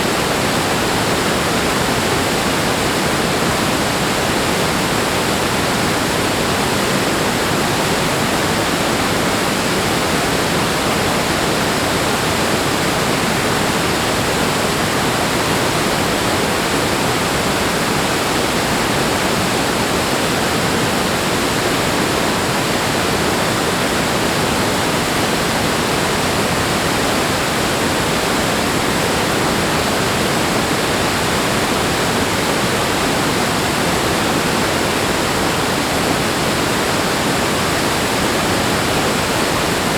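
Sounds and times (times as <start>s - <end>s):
rushing water roar: 0.0s - 39.9s.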